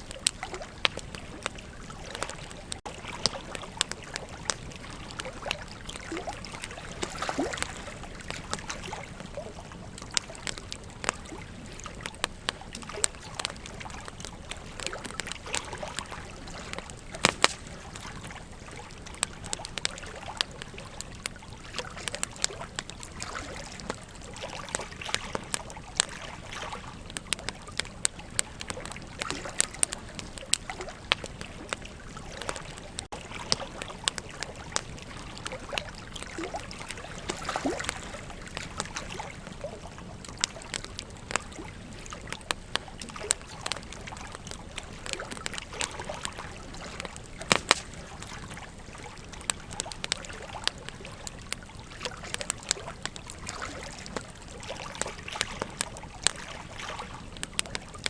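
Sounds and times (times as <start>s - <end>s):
flowing river water: 0.0s - 58.0s
wood fire crackling: 0.0s - 58.0s.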